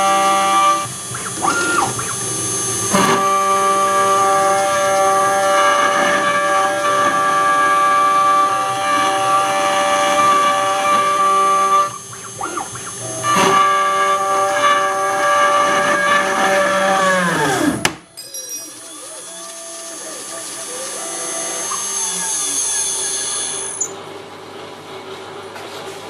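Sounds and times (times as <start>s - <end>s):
router spindle whine cutting metal: 0.0s - 24.0s.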